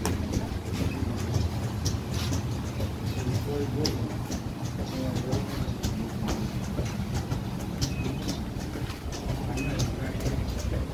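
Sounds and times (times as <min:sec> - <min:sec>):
light clicks and ticks: 0:00.0 - 0:10.9
machine rumbling: 0:00.0 - 0:10.9.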